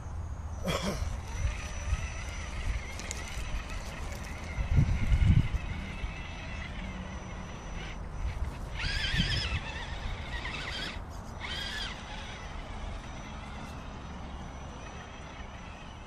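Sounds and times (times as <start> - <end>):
rc car electric motor whining: 0.6 - 16.0.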